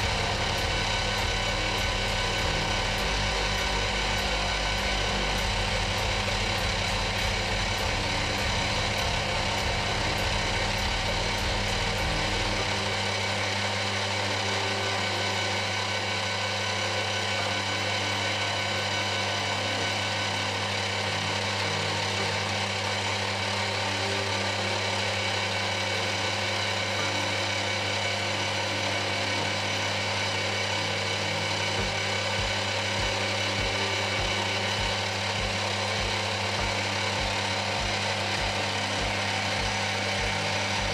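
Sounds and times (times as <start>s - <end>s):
faint low pulsing: 0.0s - 40.9s
machine tool motor hum and whine: 0.0s - 40.9s.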